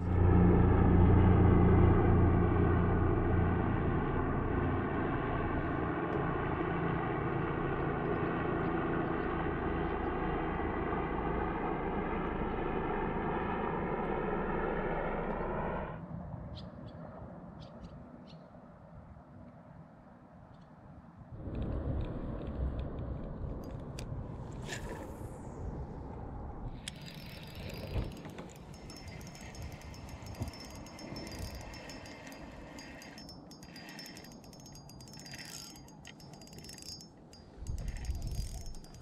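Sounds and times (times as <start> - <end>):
engine drone passing: 0.0 - 16.3, 21.3 - 39.0.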